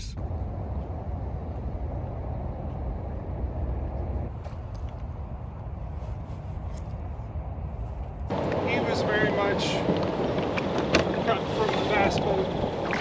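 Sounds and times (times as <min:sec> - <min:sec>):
truck engine and tyres rumbling: 0:00.0 - 0:13.0.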